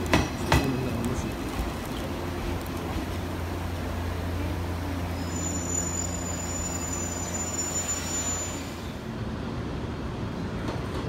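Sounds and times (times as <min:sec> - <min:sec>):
electric train running hum: 0:00.0 - 0:11.0.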